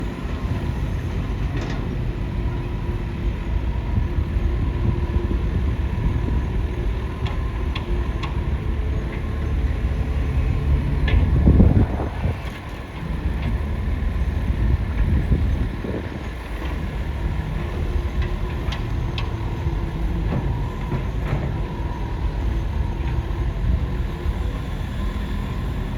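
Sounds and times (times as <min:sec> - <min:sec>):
excavator engine rumbling: 0:00.0 - 0:25.9.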